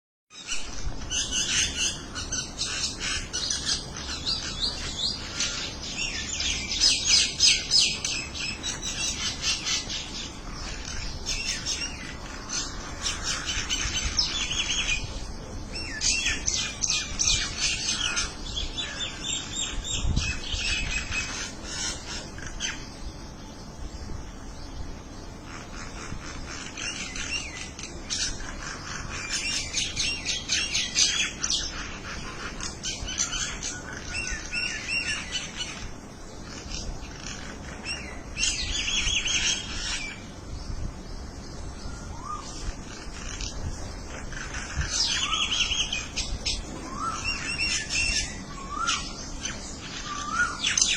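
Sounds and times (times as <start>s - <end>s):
flock of small birds chirping: 0.3s - 50.9s.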